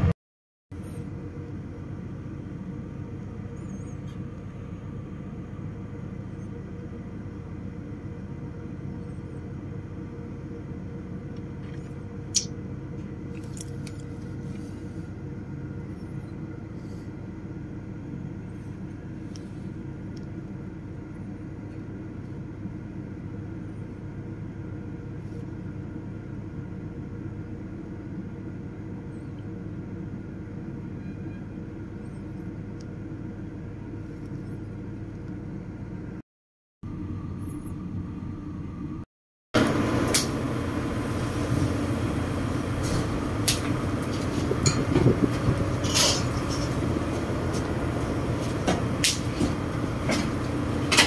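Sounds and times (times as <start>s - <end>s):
low engine rumble: 0.0s - 36.2s, 36.8s - 51.0s
constant hum: 0.7s - 36.2s, 36.8s - 51.0s.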